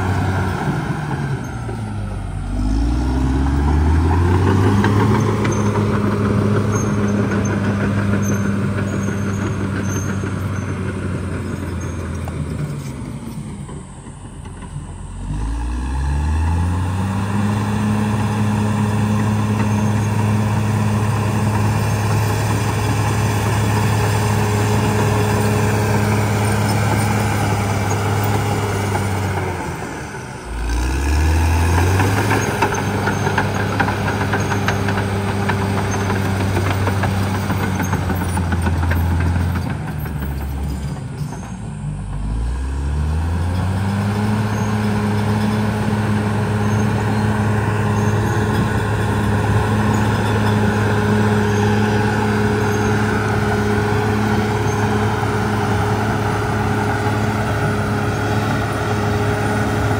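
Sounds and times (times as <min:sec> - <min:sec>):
bulldozer diesel engine working: 0:00.0 - 0:59.9.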